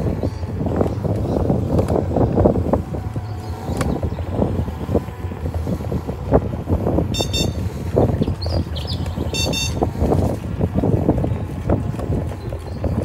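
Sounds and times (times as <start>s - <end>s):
electric scooter rumble: 0.0s - 13.0s
wind buffeting microphone: 0.0s - 13.0s.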